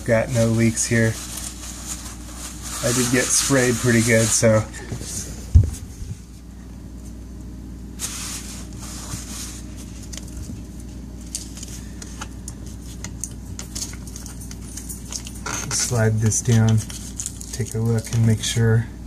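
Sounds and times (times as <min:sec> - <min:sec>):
toilet paper rustling: 0:00.0 - 0:06.5, 0:08.0 - 0:18.6
steady low hum: 0:00.0 - 0:19.0.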